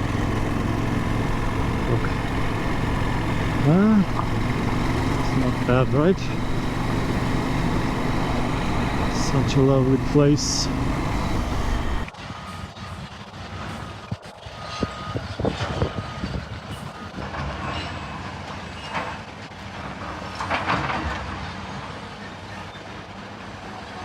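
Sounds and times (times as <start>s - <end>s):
heavy vehicles and machinery running: 0.0s - 24.0s.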